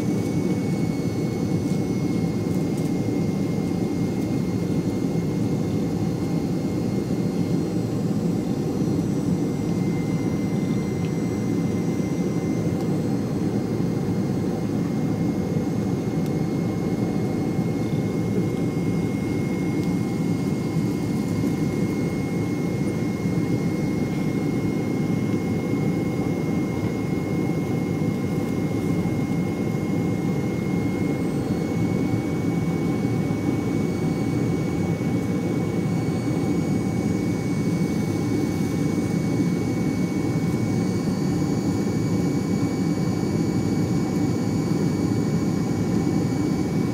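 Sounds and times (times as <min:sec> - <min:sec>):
high-pitched engine whine: 0:00.0 - 0:46.9.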